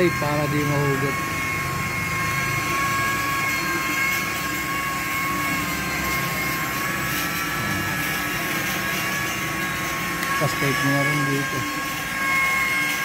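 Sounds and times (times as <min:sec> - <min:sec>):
machine droning: 0:00.0 - 0:13.0.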